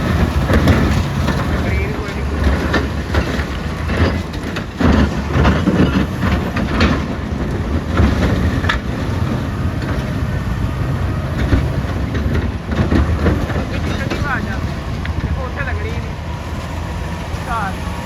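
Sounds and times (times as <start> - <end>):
rocks knocking and clattering: 0.0 - 10.4, 11.3 - 16.0
diesel engine running hard: 0.0 - 18.0.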